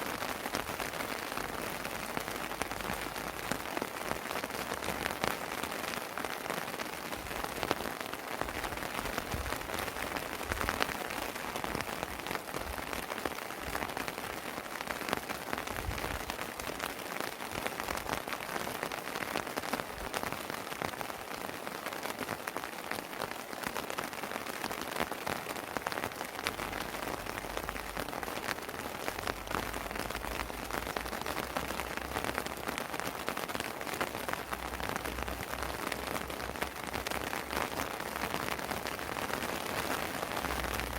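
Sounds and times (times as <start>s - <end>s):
rain pattering on a terrace: 0.0s - 40.9s.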